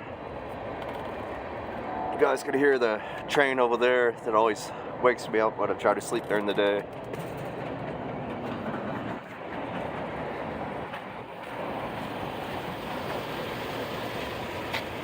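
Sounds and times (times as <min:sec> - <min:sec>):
distant train on rails: 0:00.0 - 0:15.0.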